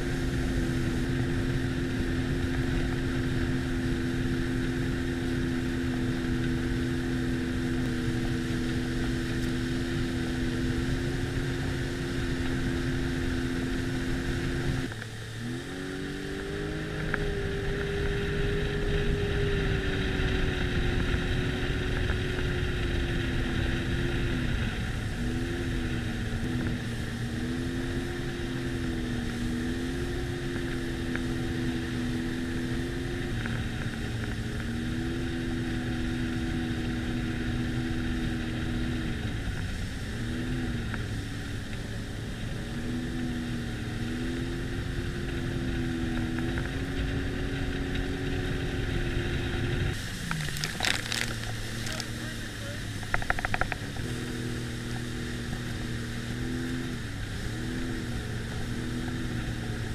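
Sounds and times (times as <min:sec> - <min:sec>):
personal watercraft engine running: 0:00.0 - 0:59.9.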